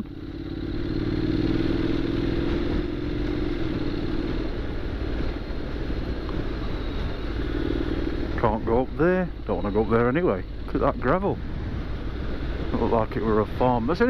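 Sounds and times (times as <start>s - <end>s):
motorcycle engine: 0.0s - 14.0s
road and wind noise: 0.0s - 14.0s.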